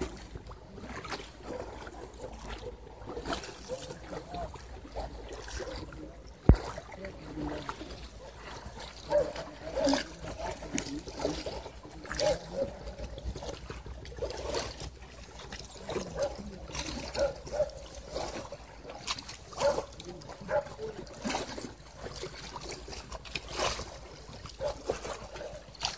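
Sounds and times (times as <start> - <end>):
oars splashing in water: 0.0 - 25.9.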